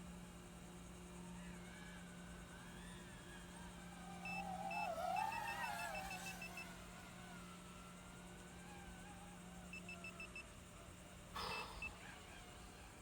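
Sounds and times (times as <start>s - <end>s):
faint rising and falling whine: 0.0s - 13.0s.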